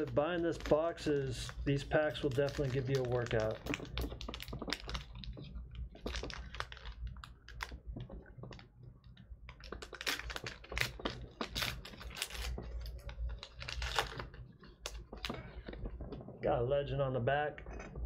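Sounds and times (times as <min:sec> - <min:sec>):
card pack wrapper crinkling: 0:00.0 - 0:08.7, 0:09.5 - 0:16.0.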